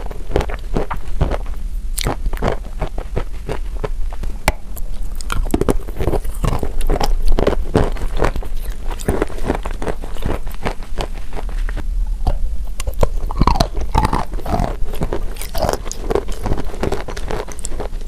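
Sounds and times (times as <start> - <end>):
chalk crunching while chewed: 0.0 - 11.8, 12.6 - 18.0.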